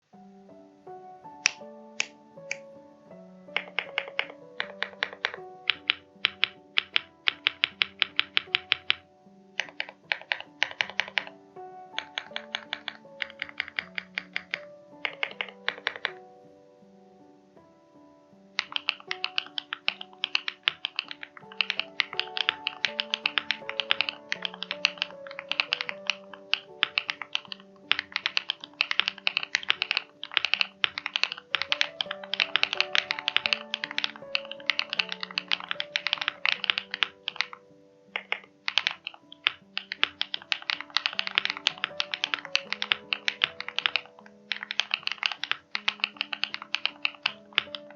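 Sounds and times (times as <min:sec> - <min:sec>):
background music: 0:00.0 - 0:47.9
mechanical keyboard typing: 0:01.4 - 0:02.6, 0:03.5 - 0:09.0, 0:09.6 - 0:11.3, 0:12.0 - 0:16.2, 0:18.6 - 0:37.6, 0:38.2 - 0:47.9.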